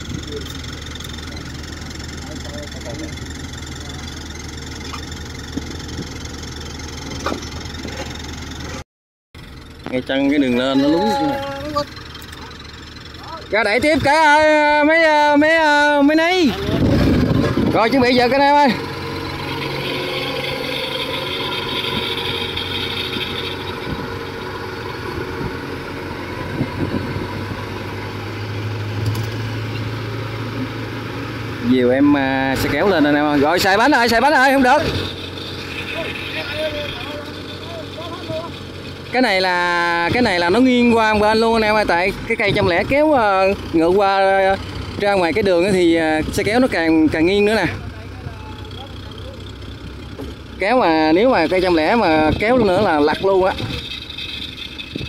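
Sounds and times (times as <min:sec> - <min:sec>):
machine engine idling: 0:00.0 - 0:08.8, 0:09.4 - 0:55.0.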